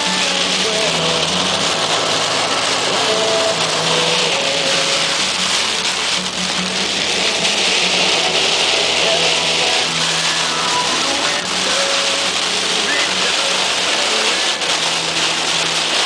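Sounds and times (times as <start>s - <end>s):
car engine humming: 0.0s - 16.0s
heavy rain on windshield: 0.0s - 16.0s
tyres hissing on wet road: 0.0s - 16.0s.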